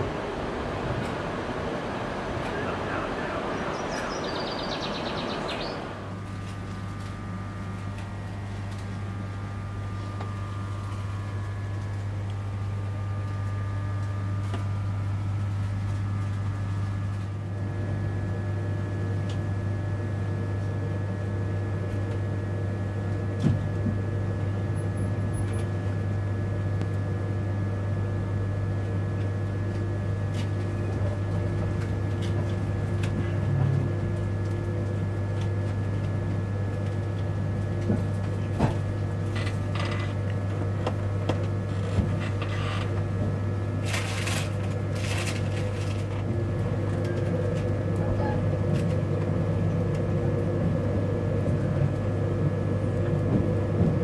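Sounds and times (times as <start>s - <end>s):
faint steady whines: 0.0s - 54.0s
low hum inside train coach: 0.0s - 54.0s
station noise with high whine: 0.0s - 54.0s.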